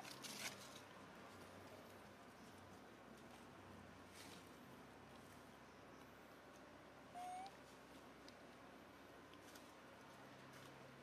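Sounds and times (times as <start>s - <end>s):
soft rustle: 0.0s - 5.5s, 7.5s - 11.0s.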